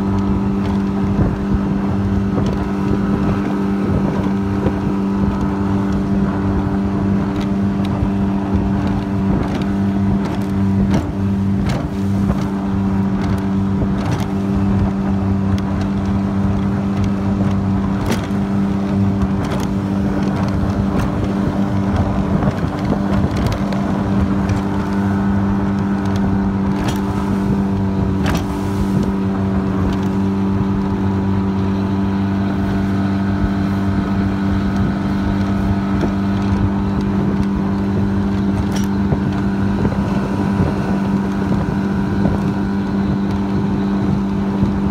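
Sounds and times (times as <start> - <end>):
outboard engine running: 0.0 - 44.9.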